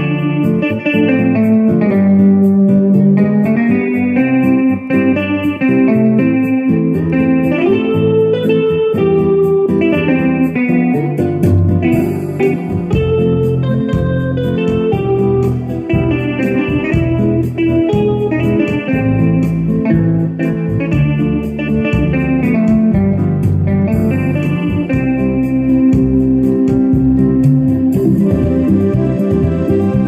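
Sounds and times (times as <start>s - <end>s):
electronic keyboard melody: 0.0s - 30.0s
steady beat: 0.0s - 30.0s
sustained bass notes: 0.0s - 30.0s.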